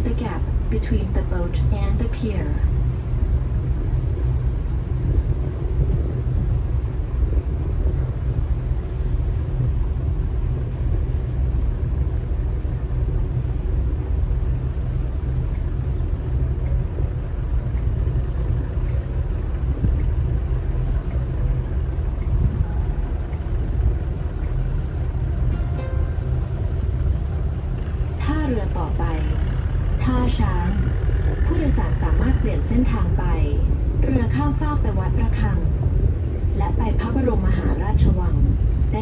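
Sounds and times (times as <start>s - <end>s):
boat engine rumble: 0.0s - 39.0s
wind: 0.0s - 39.0s.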